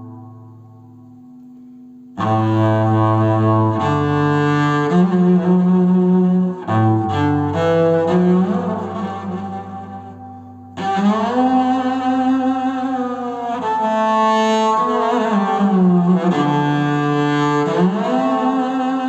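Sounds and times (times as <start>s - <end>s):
solo bowed cello: 0.0s - 19.0s.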